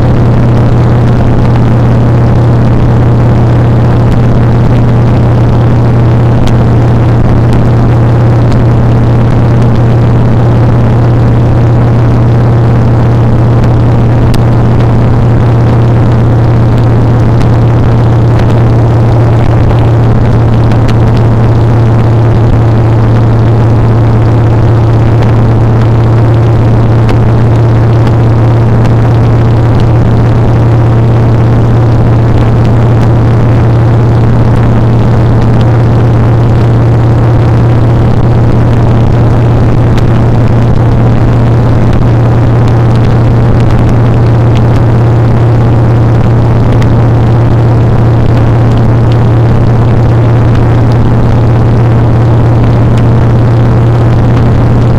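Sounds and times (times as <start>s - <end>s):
motorcycle engine drone: 0.0s - 54.9s.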